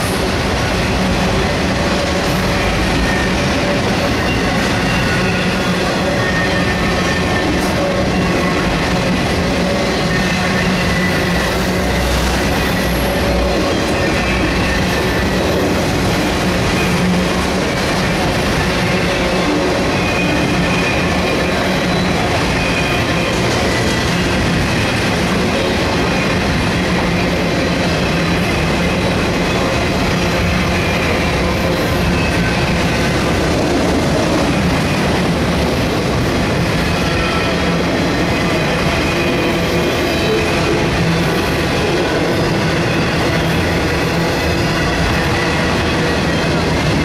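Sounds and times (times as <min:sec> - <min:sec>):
freight train wheels rolling on rail: 0:00.0 - 0:47.0.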